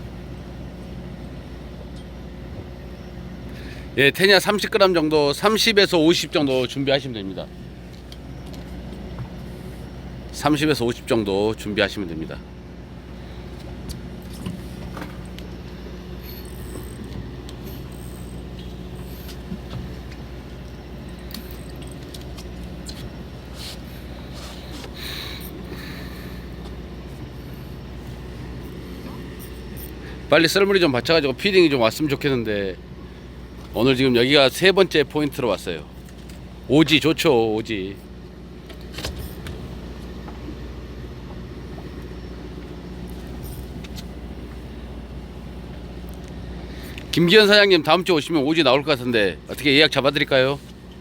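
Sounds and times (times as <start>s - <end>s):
boat machinery humming: 0.0s - 51.0s.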